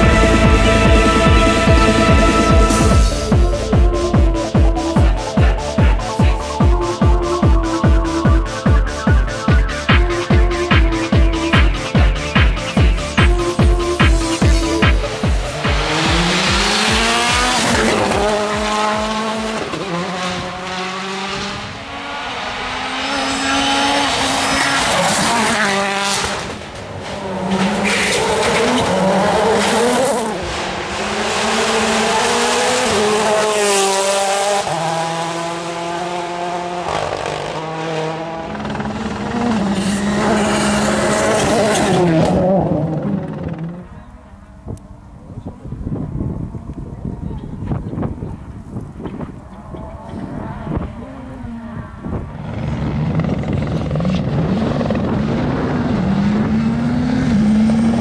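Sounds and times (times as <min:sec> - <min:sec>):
rally car engines revving past: 0:11.2 - 0:58.0.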